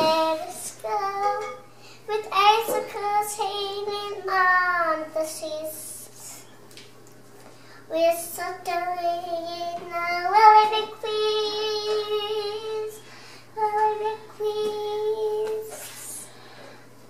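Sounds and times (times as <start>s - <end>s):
young child singing: 0.0s - 6.5s, 7.9s - 16.4s.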